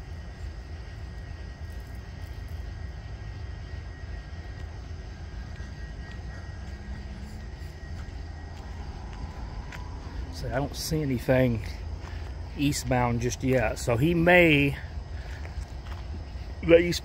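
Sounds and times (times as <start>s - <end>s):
faint high whine: 0.0s - 17.0s
steady low rumble: 0.0s - 17.0s.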